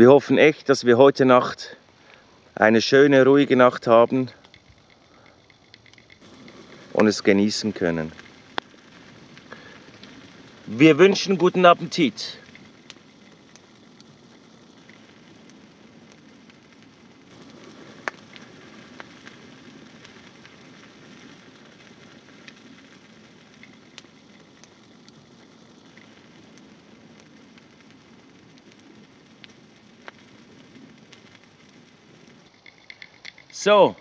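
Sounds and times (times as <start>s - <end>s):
campfire crackling: 0.0s - 34.0s
sharp pops of fire: 1.4s - 34.0s.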